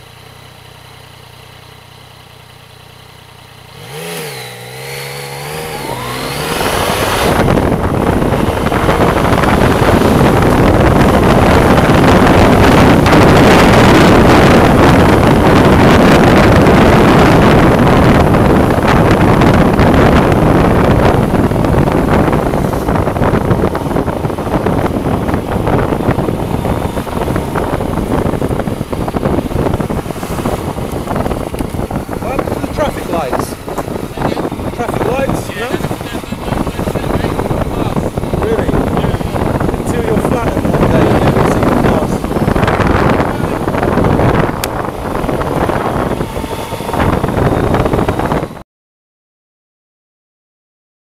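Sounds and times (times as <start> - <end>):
motorcycle engine running: 0.0 - 48.6
road noise: 0.0 - 48.6
wind buffeting microphone: 3.8 - 48.6.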